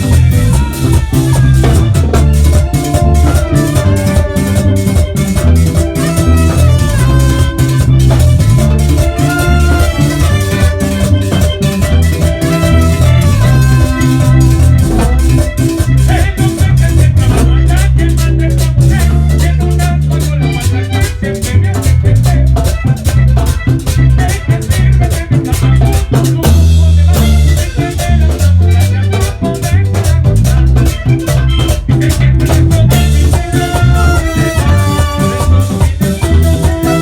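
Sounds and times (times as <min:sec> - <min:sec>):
accordion melody: 0:00.0 - 0:37.0
bass: 0:00.0 - 0:37.0
percussion beat: 0:00.0 - 0:37.0.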